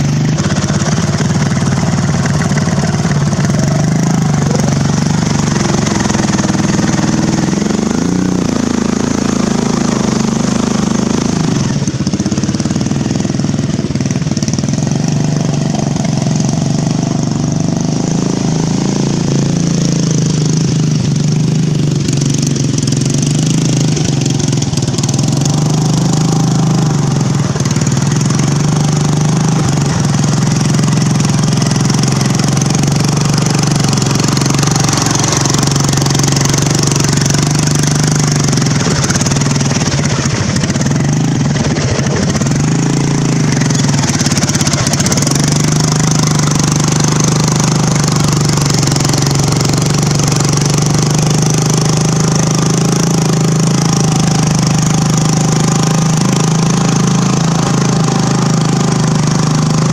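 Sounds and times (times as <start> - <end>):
riding mower engine running hard: 0.0 - 59.9.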